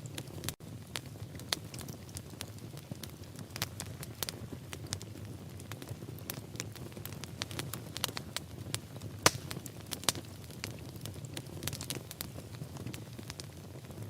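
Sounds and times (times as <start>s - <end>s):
low rush of flame: 0.0s - 14.0s
sharp pops from fire: 0.0s - 14.0s
wood fire crackling: 0.0s - 14.0s.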